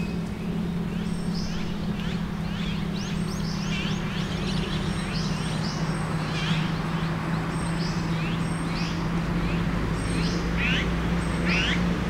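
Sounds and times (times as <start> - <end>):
road traffic drone: 0.0 - 12.0
small birds chirping: 0.0 - 12.0.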